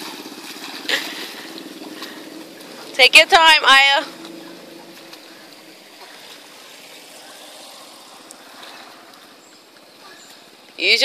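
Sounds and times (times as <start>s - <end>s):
steady outdoor hiss: 0.0s - 11.0s
water splashing and lapping: 0.0s - 11.0s.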